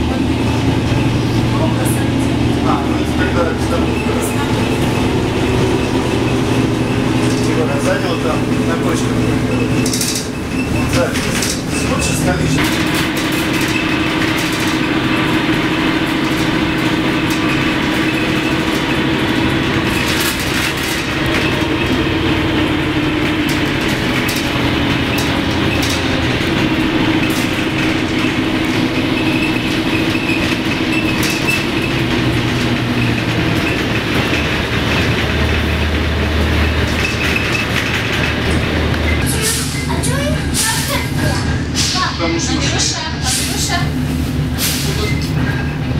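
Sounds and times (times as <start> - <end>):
bus engine and road rumble: 0.0 - 45.9
deeper rumble: 0.0 - 45.9
body clicks and rattles: 3.2 - 41.5.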